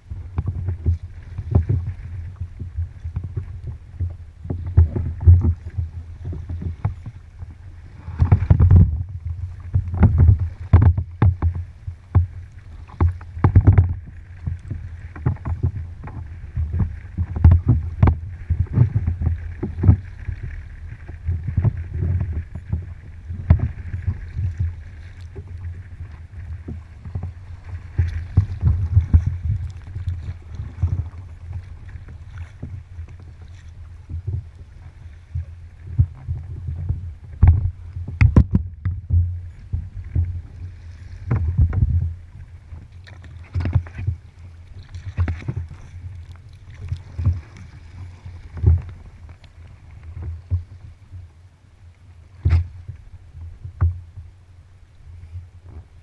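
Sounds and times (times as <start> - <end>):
water slapping against hull: 0.0 - 51.3, 52.2 - 54.4
paddle splashes: 0.0 - 56.0
steady low rumble: 0.0 - 56.0.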